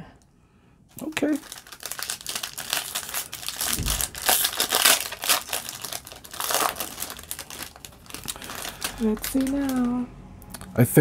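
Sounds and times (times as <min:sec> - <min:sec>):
foil wrapper tearing and crinkling: 0:01.0 - 0:10.0.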